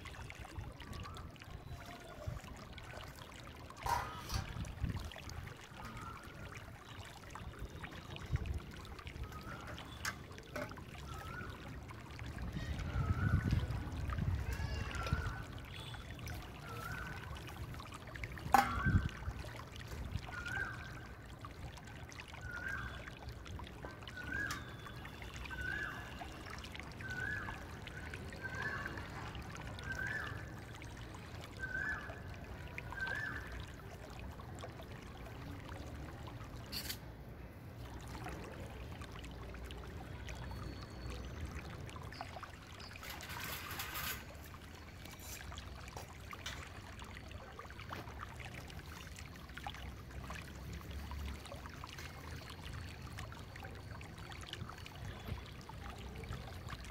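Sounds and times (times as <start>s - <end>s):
water pouring and trickling: 0.0s - 56.9s.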